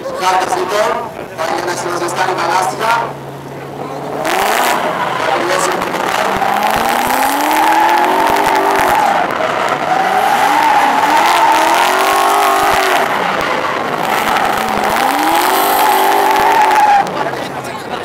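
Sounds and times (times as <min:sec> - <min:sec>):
tyres screeching on asphalt: 0:00.0 - 0:17.6
car engine revving: 0:00.0 - 0:18.0.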